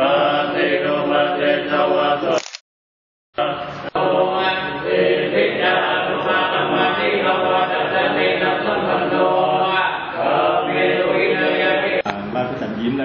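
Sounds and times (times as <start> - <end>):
group chanting in unison: 0.0 - 2.4, 3.4 - 12.0.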